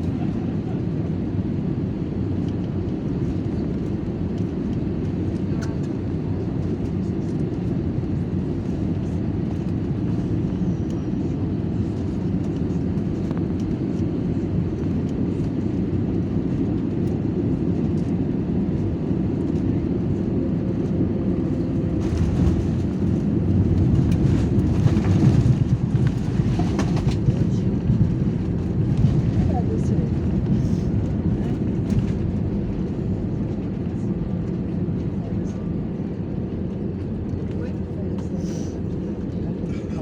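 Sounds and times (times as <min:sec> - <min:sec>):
jet engine rumble: 0:00.0 - 0:40.0.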